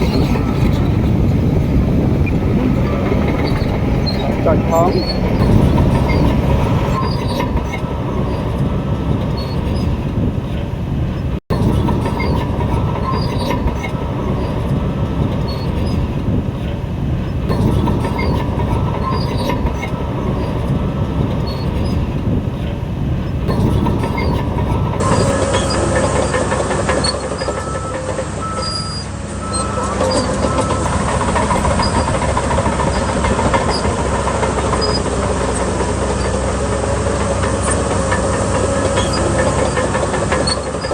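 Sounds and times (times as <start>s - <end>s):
bulldozer diesel engine: 0.0s - 40.9s
steel tracks clanking and squealing: 0.0s - 40.9s.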